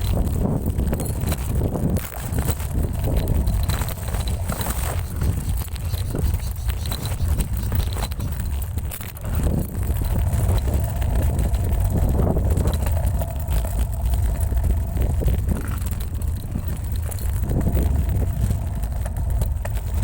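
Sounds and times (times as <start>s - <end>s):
wind buffeting microphone: 0.0s - 20.0s
faint steady hum: 2.1s - 8.7s, 9.3s - 20.0s.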